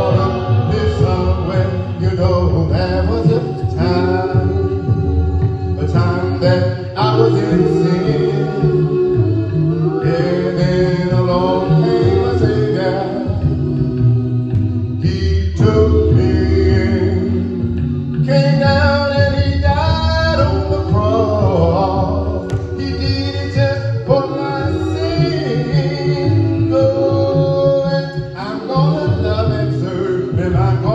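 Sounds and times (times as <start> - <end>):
voices singing gospel song: 0.0 - 30.9.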